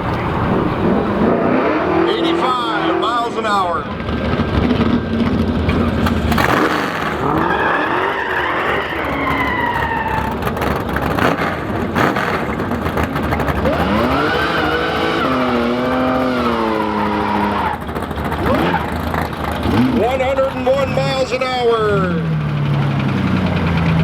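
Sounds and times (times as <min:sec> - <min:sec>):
drag racing car engines revving: 0:00.0 - 0:24.0.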